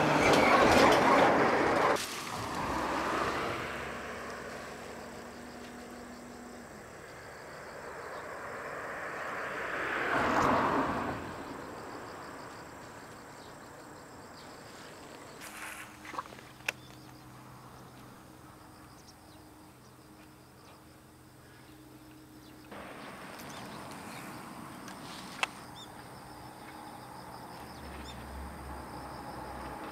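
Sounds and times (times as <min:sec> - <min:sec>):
insects chirring: 0:00.0 - 0:29.9.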